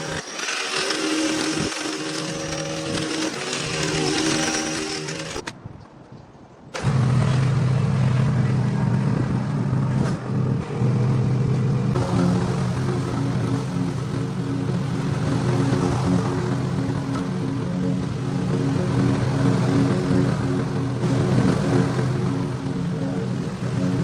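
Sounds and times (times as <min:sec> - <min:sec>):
small petrol engine running: 0:00.0 - 0:05.5, 0:06.8 - 0:24.0.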